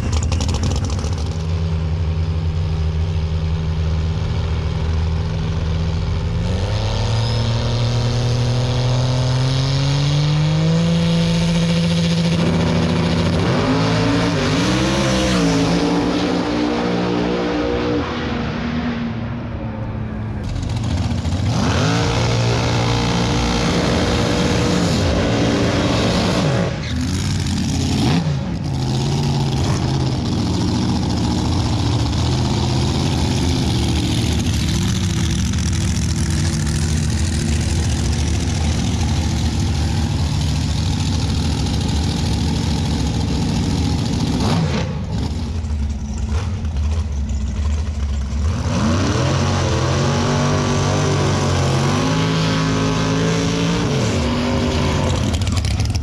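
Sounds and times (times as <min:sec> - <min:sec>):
race car engines revving: 0:00.0 - 0:56.0.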